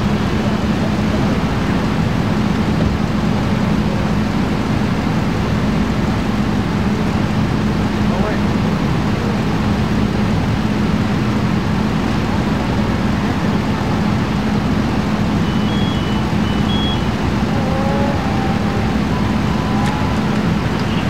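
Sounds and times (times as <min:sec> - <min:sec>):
heavy engine humming: 0:00.0 - 0:21.0.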